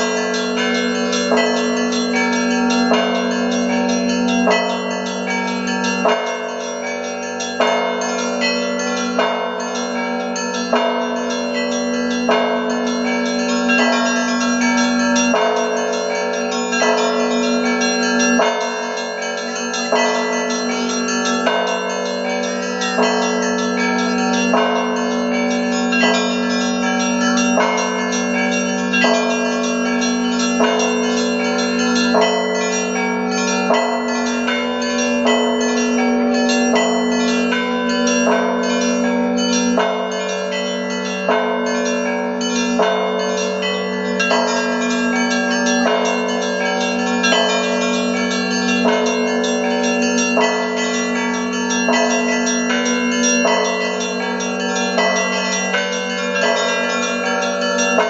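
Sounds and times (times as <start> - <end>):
church bells ringing: 0.0 - 58.0
low hum of heavy bells: 0.0 - 58.0
rapid high bell strikes: 0.0 - 58.0.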